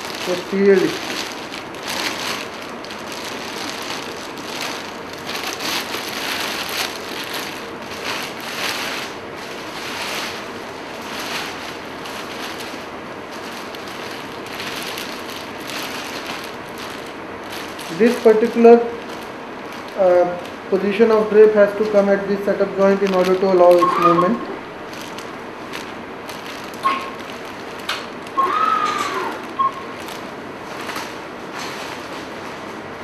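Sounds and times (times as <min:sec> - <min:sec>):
plastic drape rustling and crinkling: 0:00.0 - 0:33.0.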